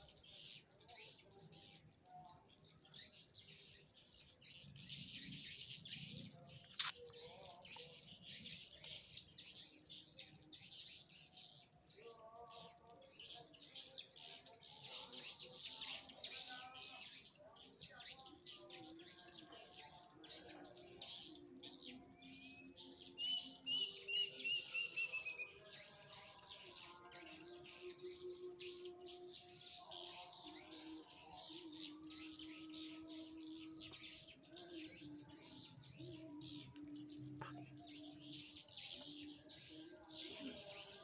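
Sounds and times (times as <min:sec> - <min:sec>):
bird trill: 0:00.0 - 0:41.0.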